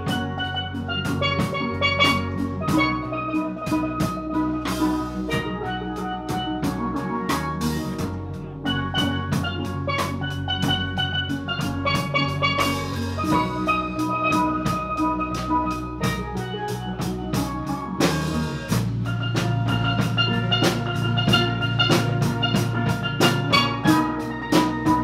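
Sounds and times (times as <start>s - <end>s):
drum kit: 0.0s - 25.0s
electric bass guitar: 0.0s - 25.0s
steel pans playing melody: 0.0s - 25.0s.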